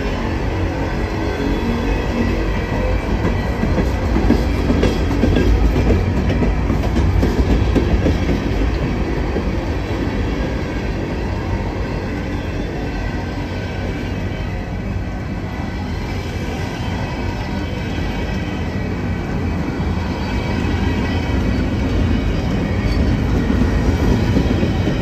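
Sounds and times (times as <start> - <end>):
train wheels rumbling and clacking: 0.0 - 25.0.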